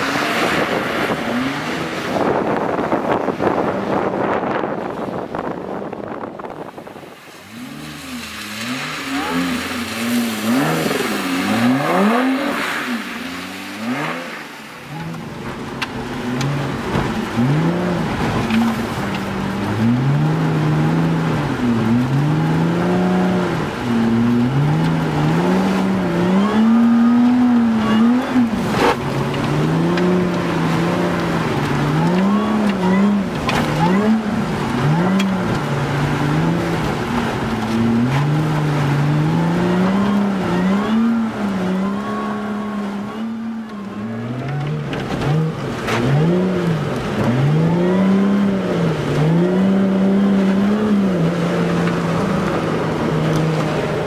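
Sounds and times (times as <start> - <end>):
car engine revving up and down: 0.0 - 54.0.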